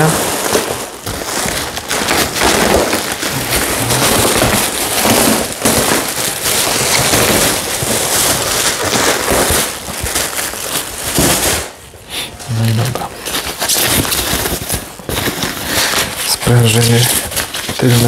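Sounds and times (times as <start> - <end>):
plastic bags rustling and crinkling: 0.0 - 18.0.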